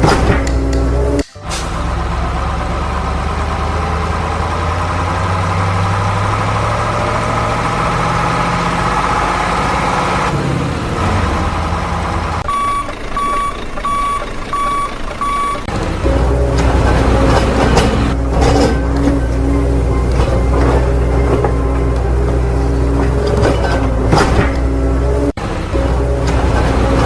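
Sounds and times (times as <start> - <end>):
truck engine running: 0.0 - 27.0
reversing alarm beeping: 1.6 - 27.0.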